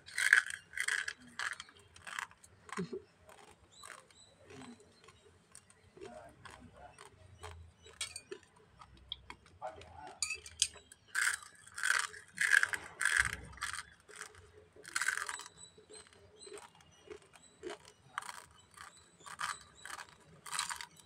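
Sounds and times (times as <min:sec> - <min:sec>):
dry noodles crunching: 0:00.0 - 0:21.0.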